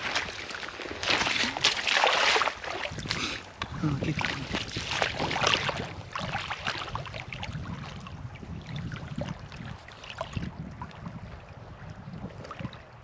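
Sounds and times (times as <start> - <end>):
water splashing and sloshing: 0.0 - 13.0
wind rumbling on microphone: 0.0 - 13.0.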